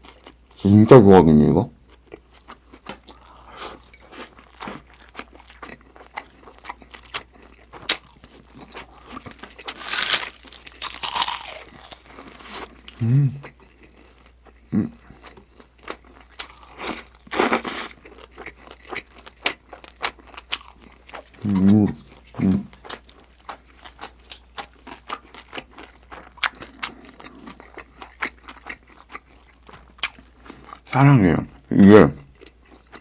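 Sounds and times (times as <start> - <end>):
chewing and crunching food: 0.0 - 0.7, 1.8 - 33.0.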